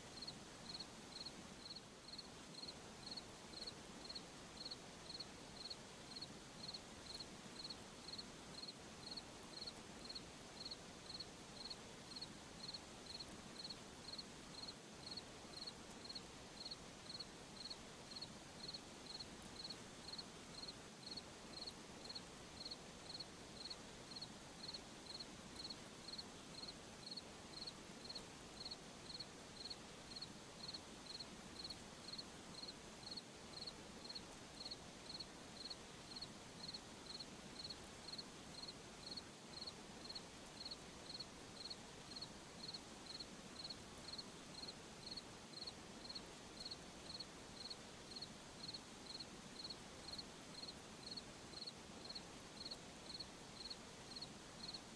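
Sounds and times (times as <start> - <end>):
soft night-time hiss: 0.0 - 54.9
cricket chirping: 0.2 - 54.8.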